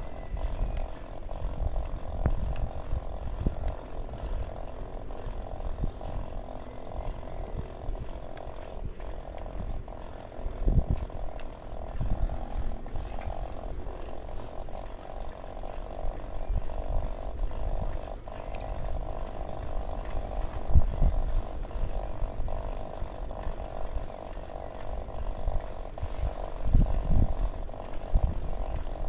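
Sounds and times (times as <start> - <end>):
bicycle whirring hum: 0.0 - 29.0
wind buffeting microphone: 0.0 - 29.0.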